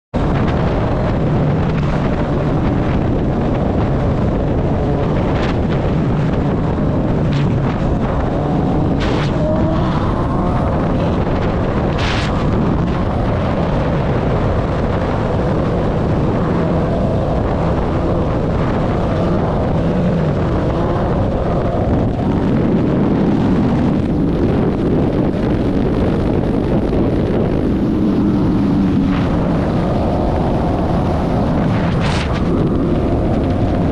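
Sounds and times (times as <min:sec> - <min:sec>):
wind noise on microphone: 0:00.1 - 0:33.9.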